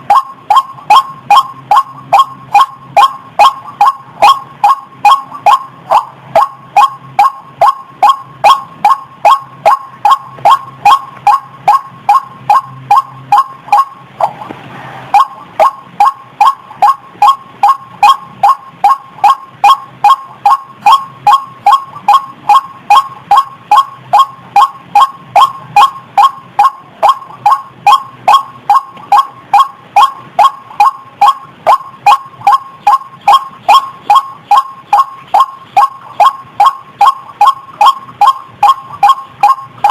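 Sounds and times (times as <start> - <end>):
waterhen calls: 0.1 - 39.9.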